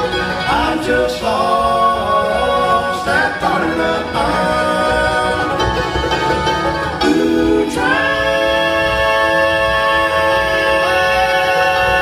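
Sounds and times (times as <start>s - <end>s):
voices singing in harmony: 0.0s - 6.1s, 6.9s - 12.0s
banjo: 0.0s - 12.0s
fiddle: 0.0s - 12.0s
guitars: 0.0s - 12.0s.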